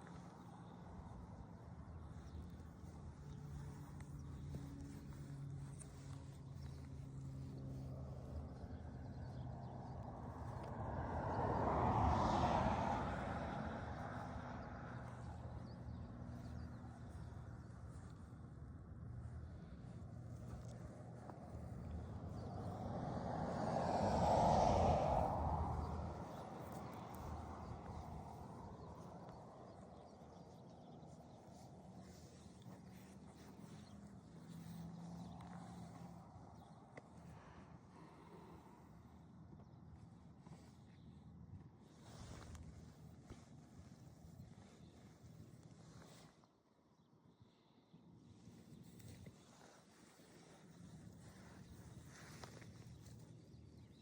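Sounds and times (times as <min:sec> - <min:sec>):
vehicle passing by: 0:02.1 - 0:46.3.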